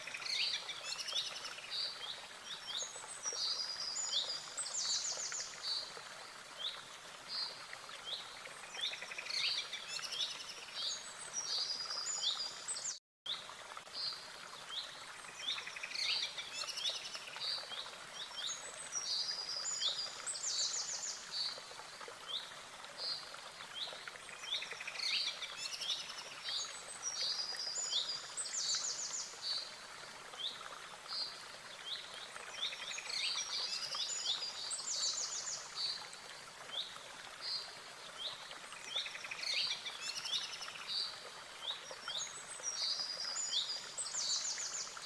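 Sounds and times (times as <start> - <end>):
faint steady hiss: 0.0 - 45.0.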